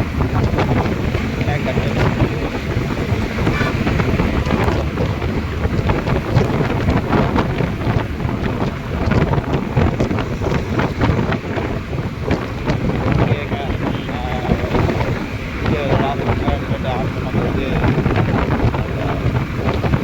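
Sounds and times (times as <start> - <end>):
motorcycle running and road noise: 0.0 - 20.0
wind buffeting microphone: 0.0 - 20.0.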